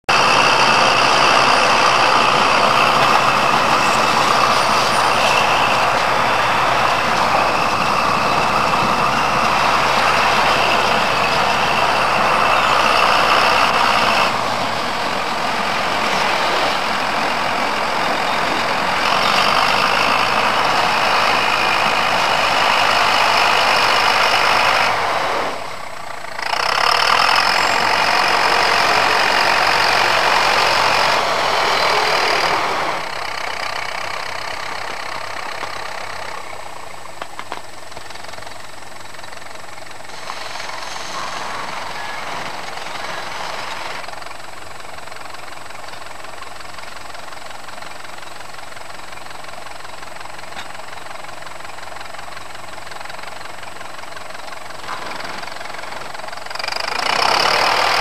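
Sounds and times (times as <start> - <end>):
snow tractor engine running: 0.0 - 58.0.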